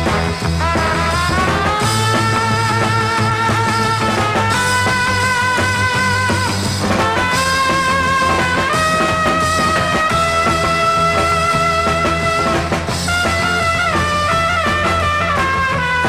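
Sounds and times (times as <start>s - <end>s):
melody notes: 0.0s - 16.0s
steady bass line: 0.0s - 16.0s.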